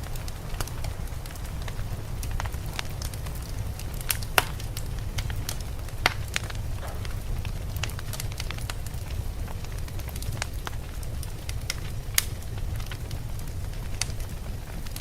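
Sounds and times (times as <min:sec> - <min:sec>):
low rumble: 0:00.0 - 0:14.2
wood fire crackling: 0:00.0 - 0:15.0.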